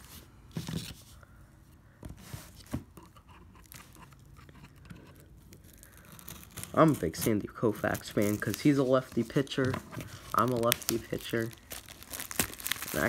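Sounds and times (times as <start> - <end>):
cardboard packaging rustling: 0.0 - 1.2, 2.1 - 13.0.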